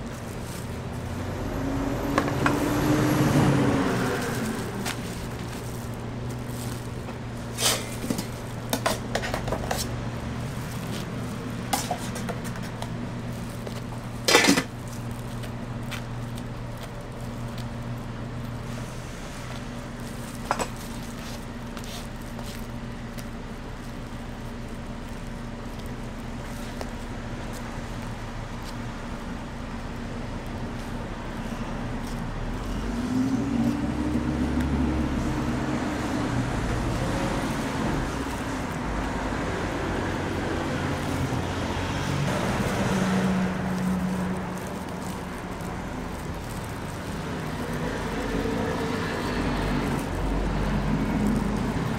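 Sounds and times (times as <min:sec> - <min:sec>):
low traffic hum: 0:00.0 - 0:51.9
vehicle engines passing: 0:00.0 - 0:51.9.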